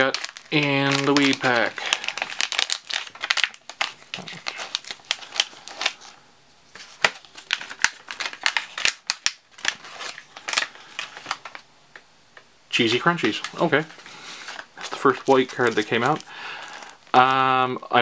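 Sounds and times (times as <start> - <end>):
plastic pouch crinkling: 0.0 - 11.7, 12.9 - 17.6.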